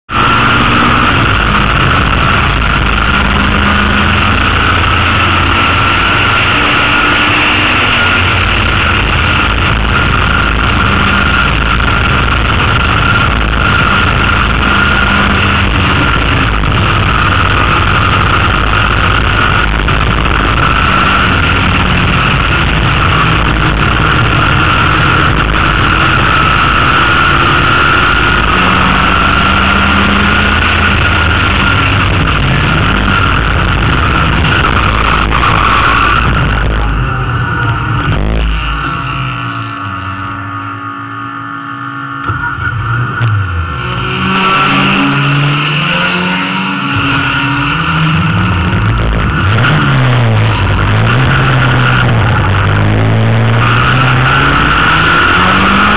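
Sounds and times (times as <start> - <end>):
racing car engine running hard: 0.0 - 55.9.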